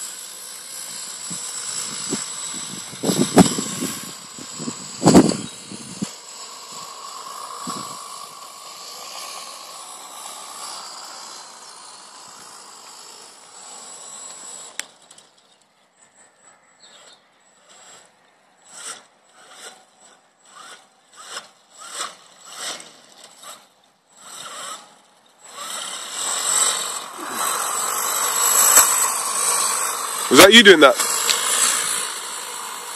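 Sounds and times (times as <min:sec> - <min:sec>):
electric motor whine: 0:00.0 - 0:15.4, 0:16.0 - 0:32.9.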